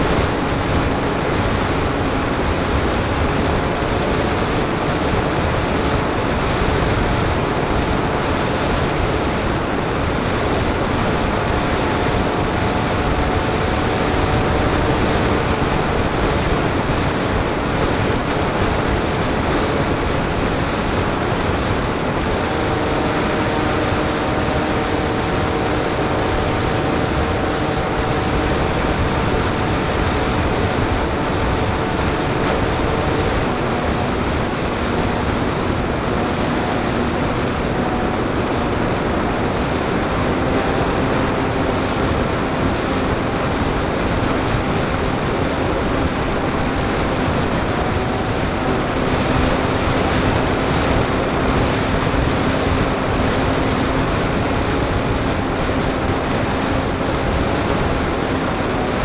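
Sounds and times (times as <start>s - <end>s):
electric motor and propeller humming: 0.0s - 59.0s
thin high whine: 0.0s - 59.0s
wind rushing over camera: 0.0s - 59.0s.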